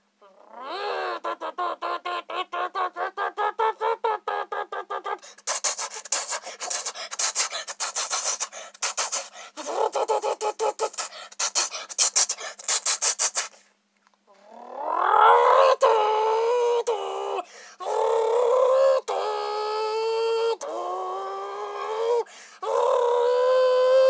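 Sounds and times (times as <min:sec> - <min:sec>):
person imitating engine with mouth: 0:00.2 - 0:13.7, 0:14.3 - 0:24.0.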